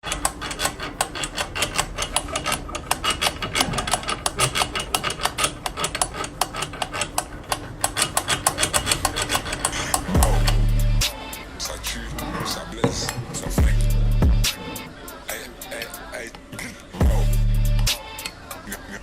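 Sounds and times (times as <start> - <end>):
metallic clicking and rattling: 0.0 - 16.2.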